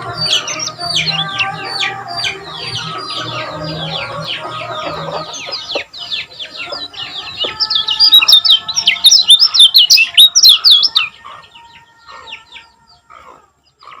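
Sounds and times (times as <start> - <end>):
bird singing sharp chirps: 0.0 - 11.6.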